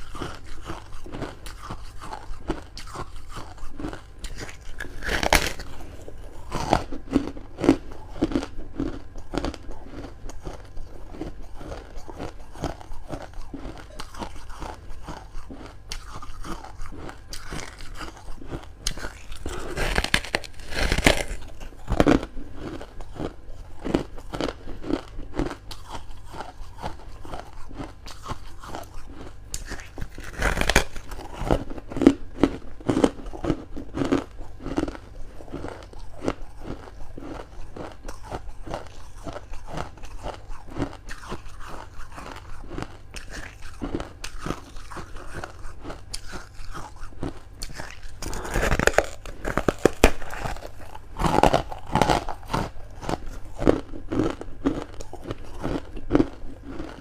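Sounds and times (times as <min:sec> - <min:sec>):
crunching and chewing frost: 0:00.0 - 0:57.0.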